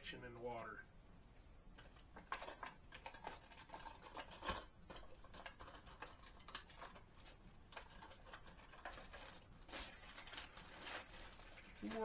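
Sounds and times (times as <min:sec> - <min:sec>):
plastic lures clicking and rustling: 0:00.1 - 0:12.0.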